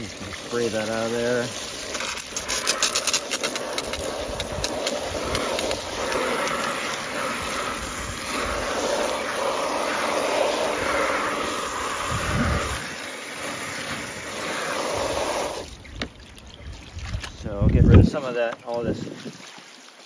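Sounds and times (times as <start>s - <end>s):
hose water splashing into bucket: 0.0s - 20.0s.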